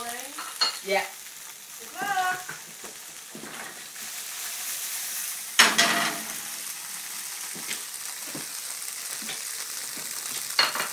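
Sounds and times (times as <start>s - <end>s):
food sizzling in a frying pan: 0.0s - 10.9s.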